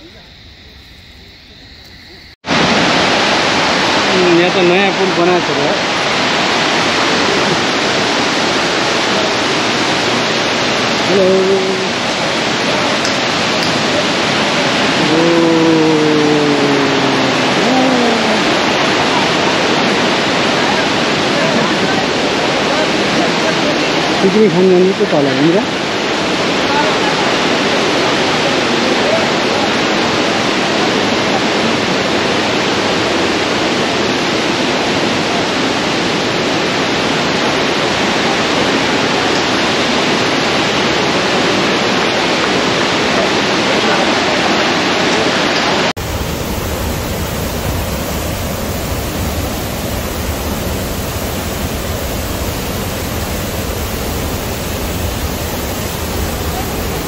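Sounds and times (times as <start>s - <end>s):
cascading water rushing: 2.4s - 57.0s.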